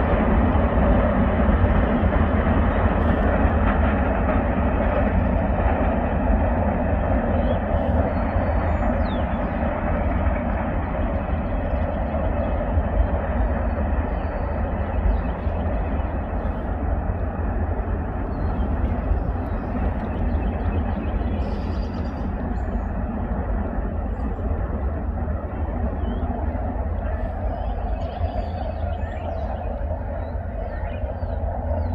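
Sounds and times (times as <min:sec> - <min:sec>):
freight train rumbling past: 0:00.0 - 0:31.9.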